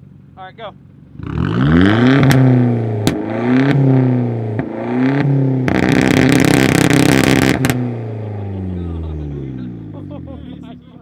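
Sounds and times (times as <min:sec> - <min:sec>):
exhaust crackle: 0:00.0 - 0:11.0
car engine revving: 0:00.9 - 0:11.0.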